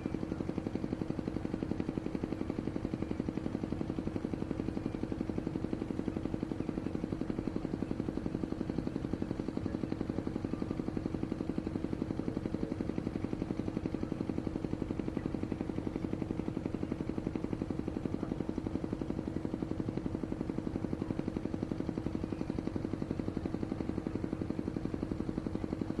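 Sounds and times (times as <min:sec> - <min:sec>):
motor running with pulsing hum: 0:00.0 - 0:26.0.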